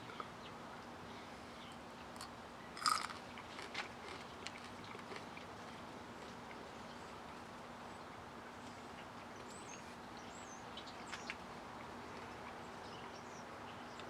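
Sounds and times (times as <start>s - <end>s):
low constant hum: 0.0s - 14.0s.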